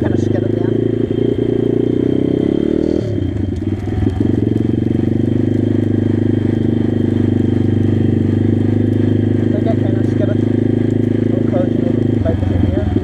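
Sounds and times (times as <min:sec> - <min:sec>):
small motorbike engine running: 0:00.0 - 0:13.0.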